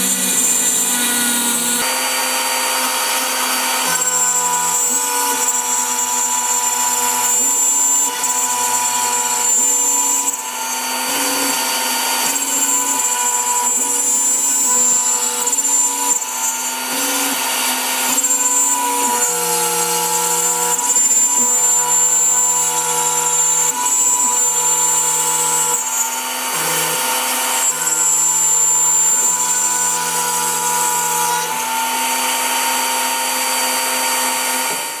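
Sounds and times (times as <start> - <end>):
router spindle whining: 0.0 - 35.0.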